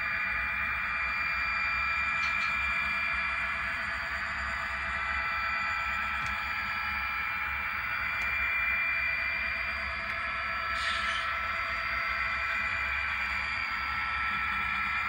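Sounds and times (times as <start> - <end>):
model train whine: 0.0 - 15.0.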